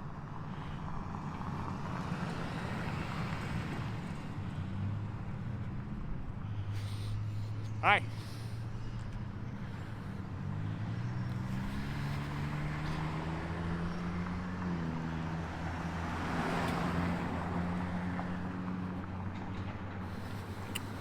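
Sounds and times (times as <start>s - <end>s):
vehicle engine hum: 0.0s - 21.0s
vehicle passing: 1.6s - 21.0s.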